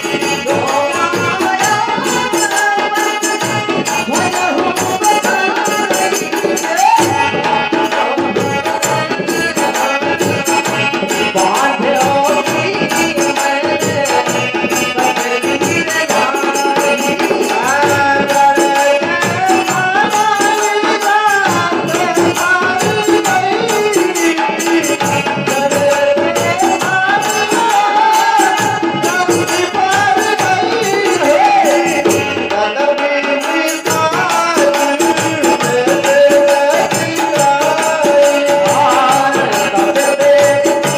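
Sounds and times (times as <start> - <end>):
hand drums: 0.0 - 40.9
person singing folk melody: 0.0 - 40.9.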